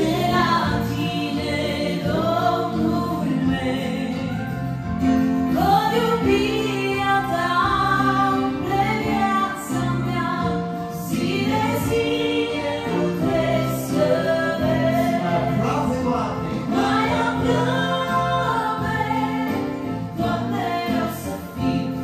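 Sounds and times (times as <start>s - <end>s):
woman singing worship song: 0.0s - 4.7s, 5.4s - 15.6s, 16.7s - 22.0s
electronic keyboard chords: 0.0s - 22.0s.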